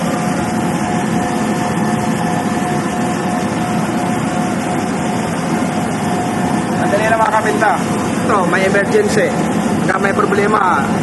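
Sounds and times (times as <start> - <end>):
oven burner and blower rushing: 0.0 - 11.0.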